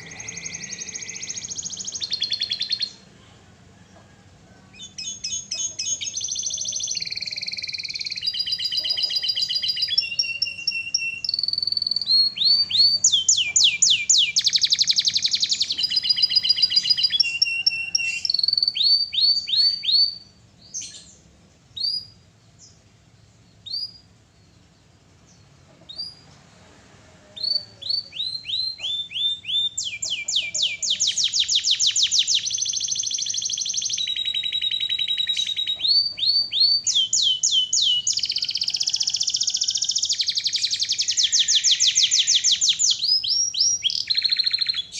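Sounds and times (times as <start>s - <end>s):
canary singing trills: 0.0s - 3.2s, 4.6s - 26.4s, 27.3s - 44.9s.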